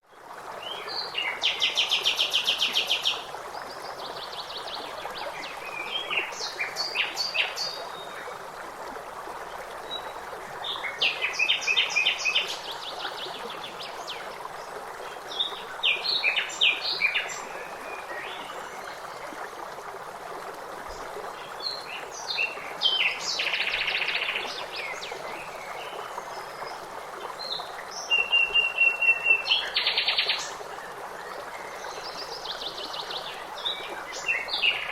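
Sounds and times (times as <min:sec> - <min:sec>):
running water: 0:00.0 - 0:34.9.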